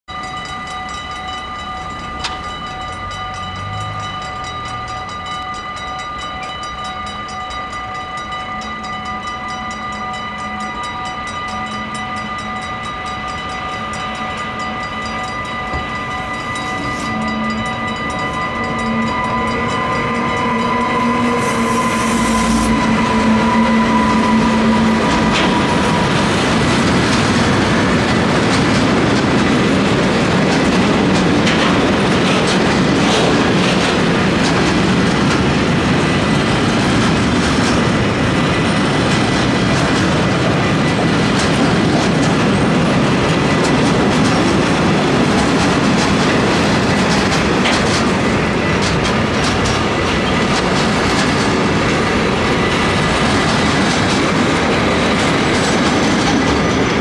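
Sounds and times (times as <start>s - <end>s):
level-crossing bell ringing: 0.1s - 37.2s, 37.8s - 57.0s
clattering train wheels: 0.1s - 57.0s
freight train rolling: 0.1s - 57.0s.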